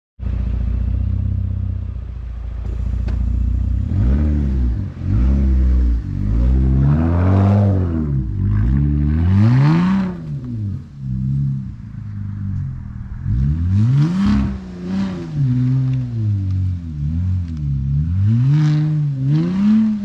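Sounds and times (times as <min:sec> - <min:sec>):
car exhaust idling and revving: 0:00.2 - 0:20.0.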